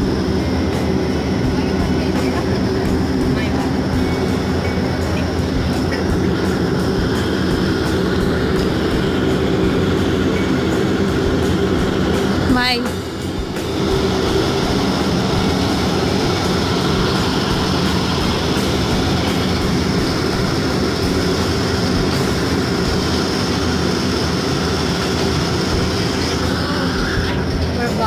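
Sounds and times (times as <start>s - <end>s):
airliner engine drone in cabin: 0.0s - 28.0s.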